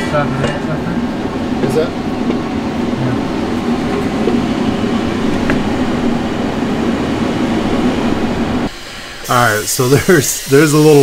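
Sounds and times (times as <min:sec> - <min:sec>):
ventilation machinery humming: 0:00.0 - 0:11.0.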